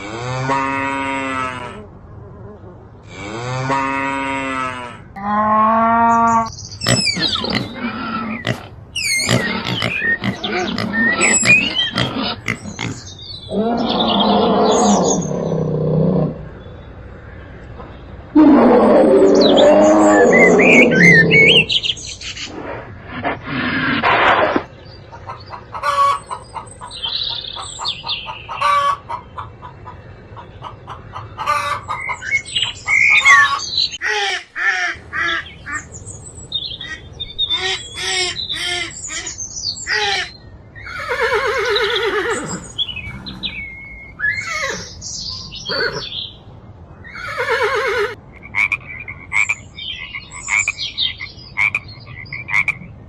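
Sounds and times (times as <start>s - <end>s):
animal calls: 0.0s - 16.8s, 18.3s - 35.9s, 36.8s - 46.3s.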